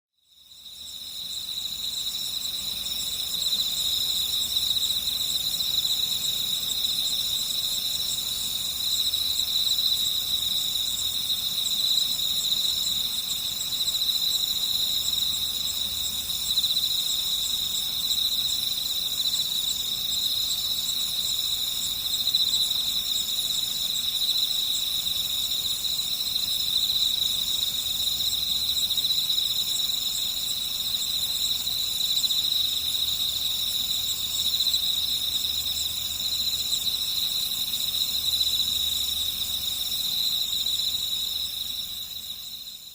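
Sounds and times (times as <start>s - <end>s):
night insects trilling: 0.2s - 42.9s
higher pulsing insect call: 0.3s - 42.9s.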